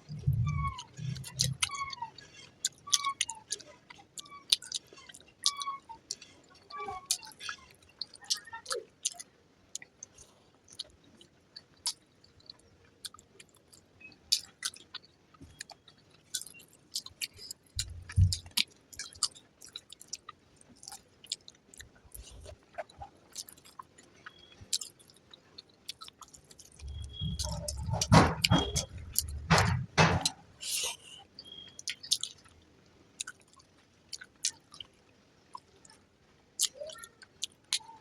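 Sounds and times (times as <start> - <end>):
person chewing food: 0.0 - 32.6, 33.2 - 36.0, 36.6 - 37.9.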